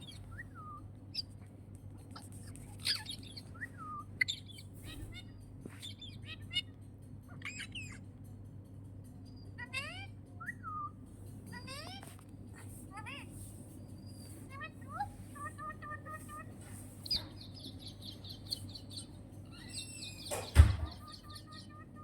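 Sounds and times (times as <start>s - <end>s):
parrot chirping and squawking: 0.0s - 8.2s, 9.3s - 22.0s
steady low hum: 0.0s - 22.0s.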